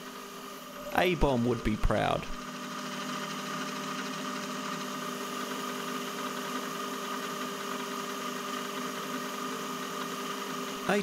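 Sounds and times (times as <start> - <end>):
lathe running with steady hum: 0.0 - 11.0.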